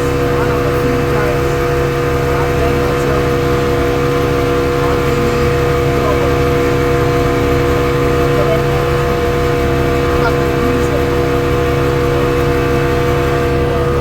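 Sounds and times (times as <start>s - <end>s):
boat motor droning: 0.0s - 14.0s.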